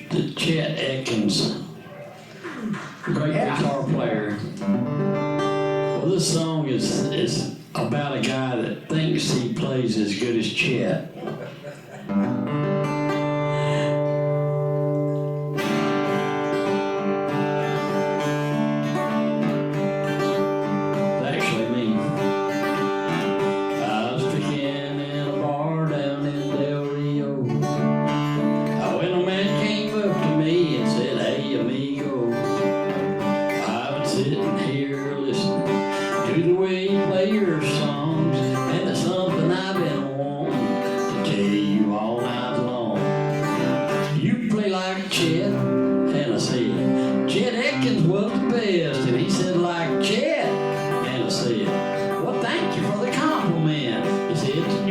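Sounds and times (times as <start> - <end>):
acoustic guitar playing: 0.0 - 54.9.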